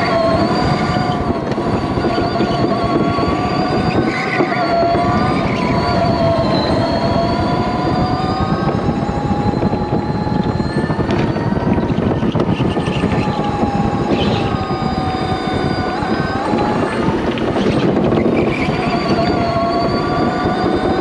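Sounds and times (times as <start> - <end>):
electric motor whining: 0.0 - 21.0
steady rumble: 0.0 - 21.0.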